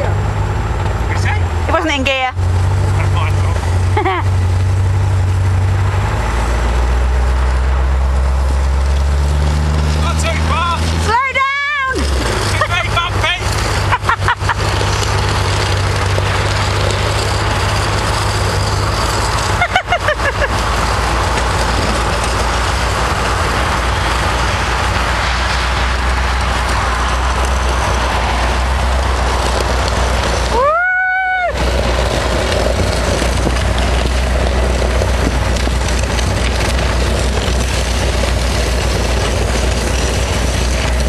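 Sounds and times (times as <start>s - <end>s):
low engine hum: 0.0s - 41.0s
wind and road noise: 0.0s - 41.0s.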